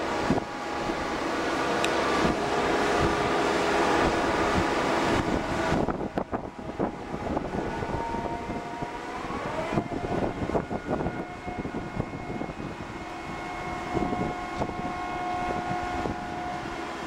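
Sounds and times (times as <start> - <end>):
crane machinery whine: 0.0 - 17.0.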